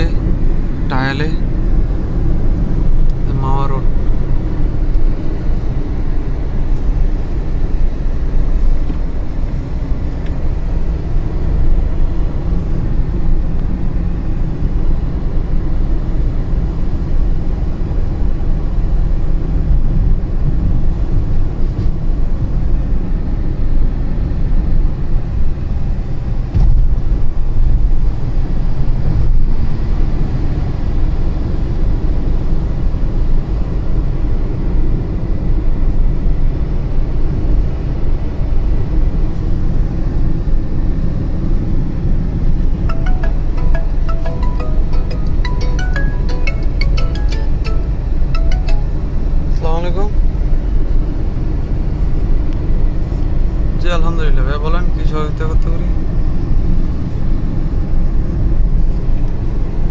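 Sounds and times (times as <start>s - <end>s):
car engine tyre and road rumble: 0.0s - 59.9s.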